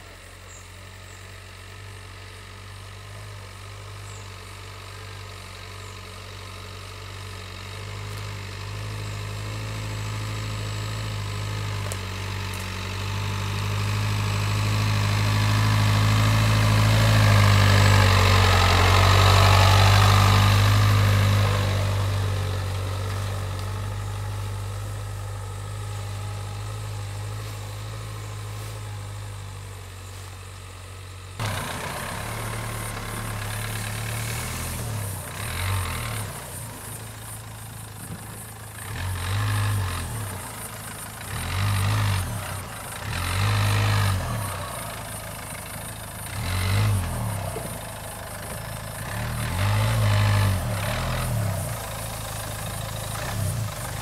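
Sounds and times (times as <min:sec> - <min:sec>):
car engine hum: 0:00.0 - 0:54.0.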